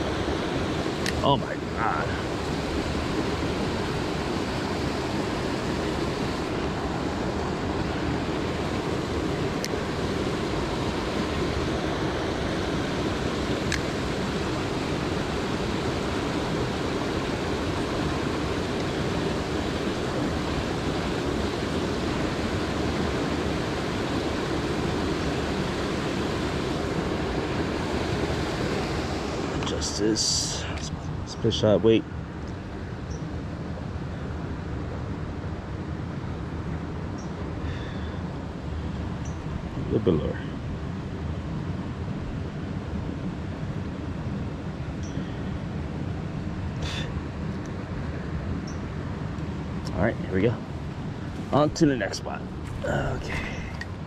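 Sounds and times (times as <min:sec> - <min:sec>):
creek water rushing: 0:00.0 - 0:32.9, 0:35.9 - 0:54.0.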